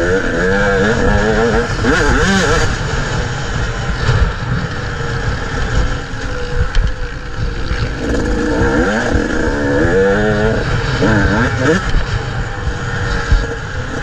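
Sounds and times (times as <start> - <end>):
motocross bike engine revving: 0.0 - 14.0
wind noise on microphone: 0.0 - 14.0.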